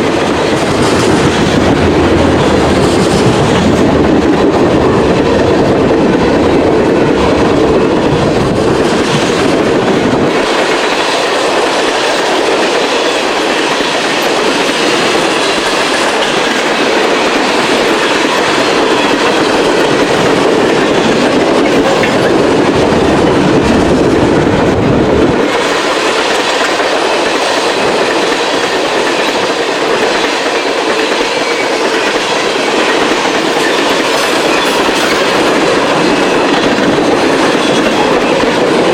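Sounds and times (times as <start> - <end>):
freight train rolling past: 0.0 - 38.9
train wheels clacking: 0.0 - 38.9.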